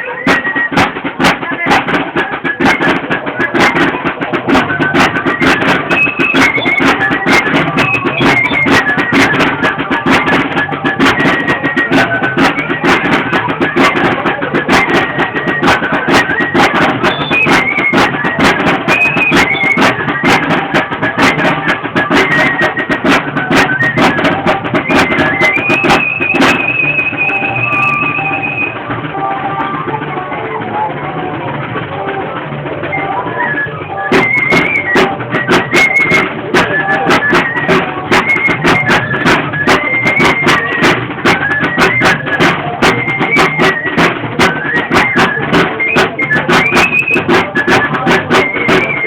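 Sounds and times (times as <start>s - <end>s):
fast drum beats: 0.0s - 49.0s
high flute melody: 0.0s - 49.0s.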